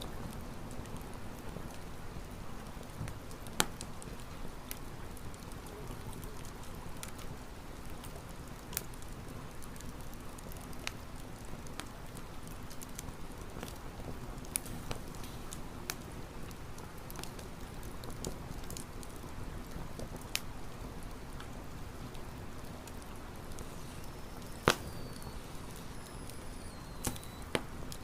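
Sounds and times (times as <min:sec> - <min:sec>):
campfire crackling: 0:00.0 - 0:28.0
wood popping in fire: 0:00.0 - 0:28.0.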